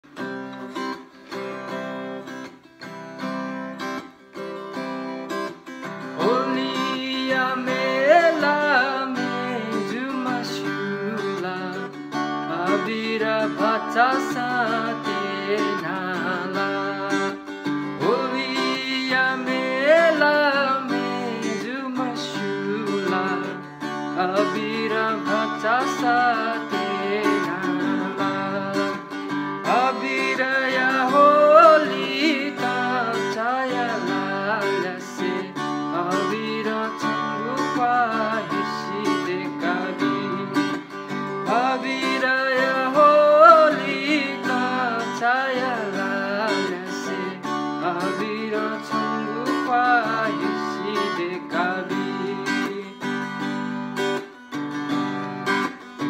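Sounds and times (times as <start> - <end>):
guitar strumming chords: 0.0 - 56.0
man singing: 5.8 - 54.2.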